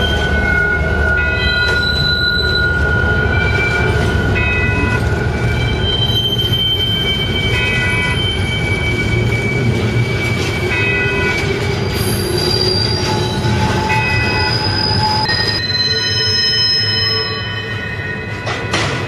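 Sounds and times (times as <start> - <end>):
wheels squealing: 0.0 - 17.8
train wheels rumbling on rail: 0.0 - 19.0.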